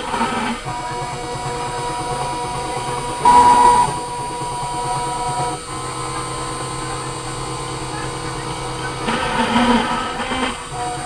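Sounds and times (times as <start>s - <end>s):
cutter milling plastic: 0.0s - 11.0s
router spindle whining: 0.0s - 11.0s.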